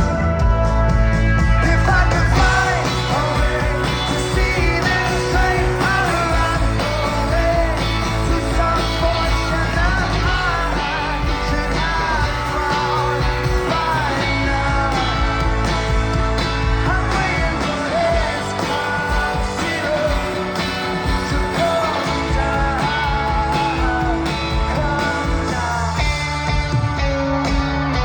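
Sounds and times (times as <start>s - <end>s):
heavy bass: 0.0s - 28.0s
live rock band playing: 0.0s - 28.0s
lead vocal singing: 1.5s - 26.5s.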